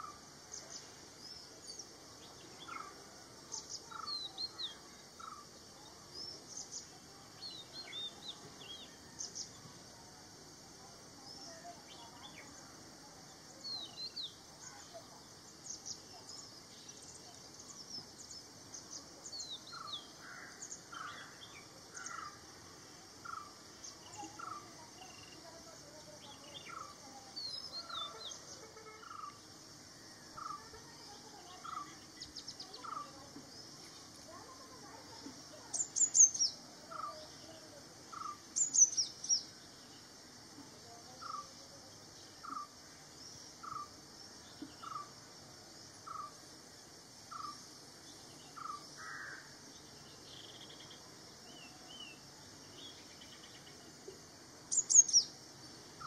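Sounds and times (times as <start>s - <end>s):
birds chirping: 0.0s - 9.8s, 11.2s - 45.2s, 47.3s - 56.0s
steady high hiss: 0.0s - 56.0s.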